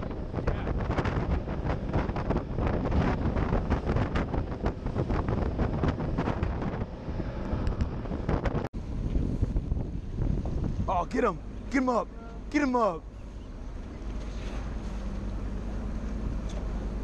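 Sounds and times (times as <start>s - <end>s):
boat hull slapping water: 0.0s - 17.0s
wind buffeting microphone: 0.0s - 17.0s.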